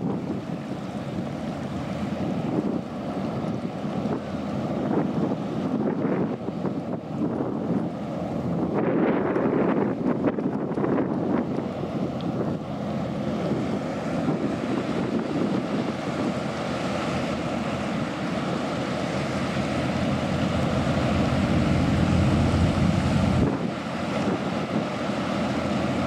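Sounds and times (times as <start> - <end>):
ferry engines and wash rushing: 0.0 - 26.0
wind buffeting microphone: 0.0 - 26.0.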